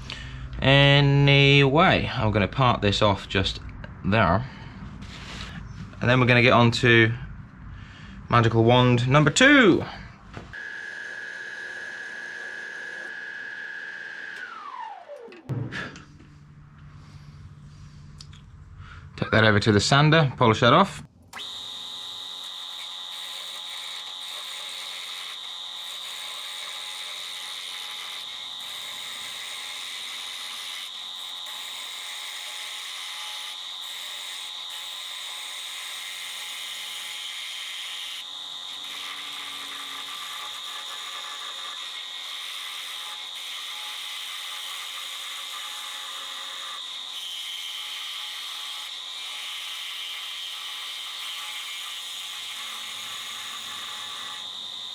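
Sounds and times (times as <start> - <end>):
electric sander whine: 7.8 - 18.4, 21.3 - 54.9.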